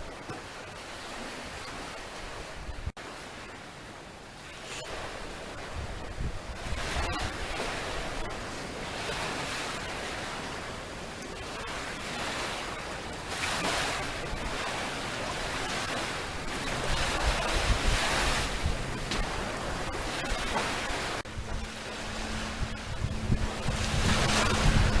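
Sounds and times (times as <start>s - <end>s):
small waves breaking on shore: 0.0s - 25.0s
wind on microphone: 1.0s - 2.9s, 4.5s - 25.0s.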